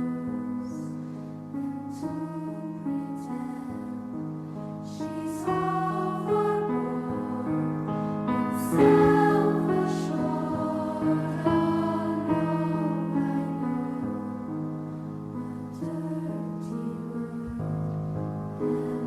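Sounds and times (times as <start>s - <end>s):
soft choir and piano music: 0.0s - 19.0s.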